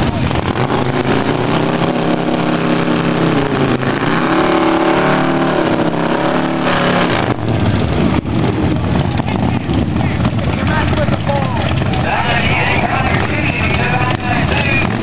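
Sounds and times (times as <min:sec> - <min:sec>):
motorcycle engines idling and revving: 0:00.0 - 0:15.0.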